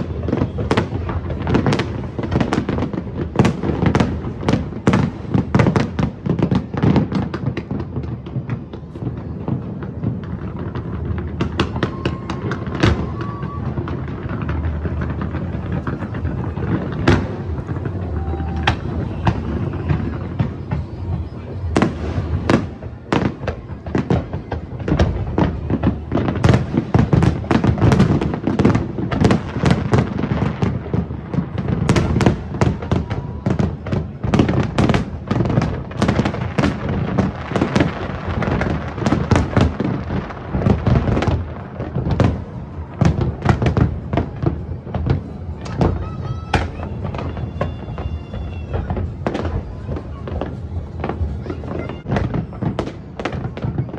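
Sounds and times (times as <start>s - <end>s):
fireworks bursts and crackles: 0.0s - 53.9s.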